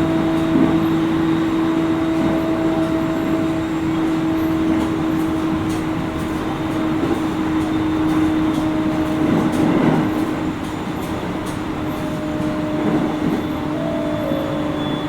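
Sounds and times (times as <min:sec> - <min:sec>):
train motor hum: 0:00.0 - 0:15.0
wheels rumbling on rail: 0:00.0 - 0:15.0.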